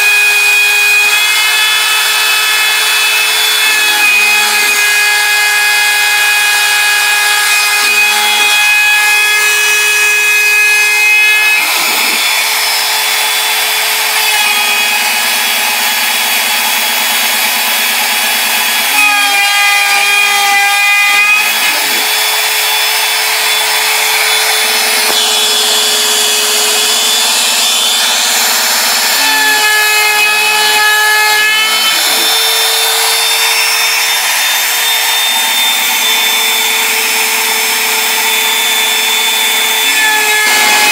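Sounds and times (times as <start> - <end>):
router cutting wood: 0.0 - 40.9
router motor whine: 0.0 - 40.9.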